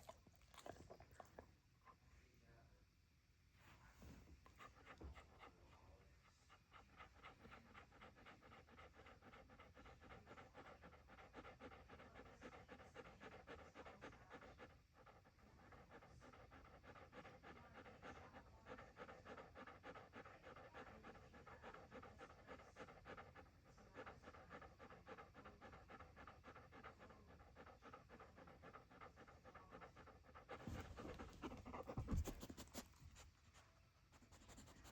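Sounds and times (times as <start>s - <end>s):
dog panting: 0.0s - 1.4s, 4.4s - 34.9s.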